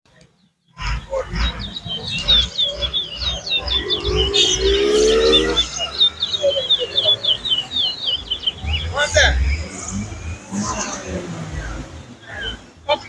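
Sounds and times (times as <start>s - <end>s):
songbird chirping fast: 0.1s - 13.0s.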